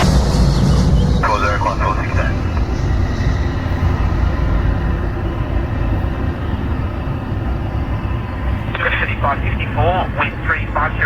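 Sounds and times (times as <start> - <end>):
faint high engine whine: 0.0 - 11.0
jet engines rumbling: 0.0 - 11.0.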